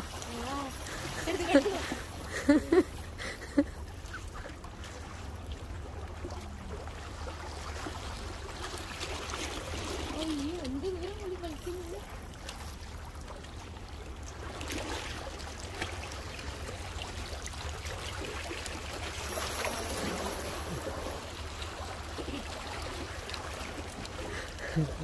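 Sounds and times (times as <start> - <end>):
water lapping against rocks: 0.0 - 25.0.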